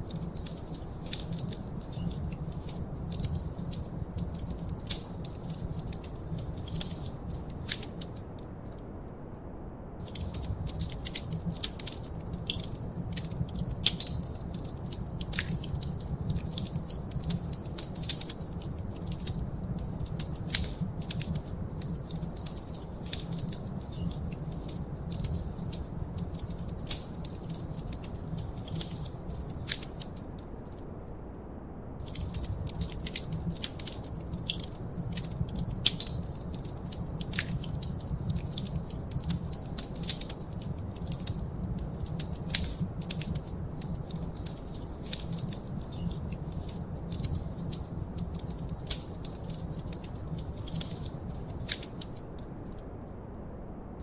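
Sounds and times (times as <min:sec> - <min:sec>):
wood fire crackling: 0:00.0 - 0:08.8, 0:10.0 - 0:30.7, 0:32.0 - 0:53.3
low rumble of flames: 0:00.0 - 0:54.0.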